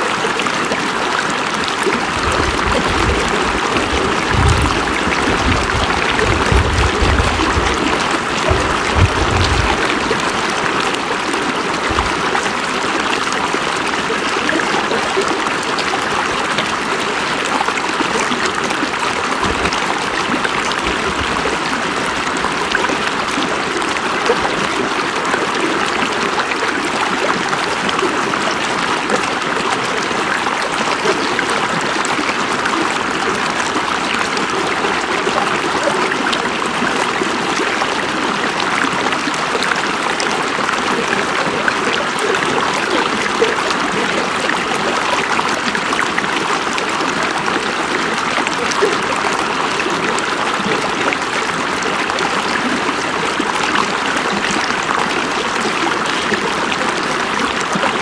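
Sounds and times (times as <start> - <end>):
river water running over rocks: 0.0 - 58.0.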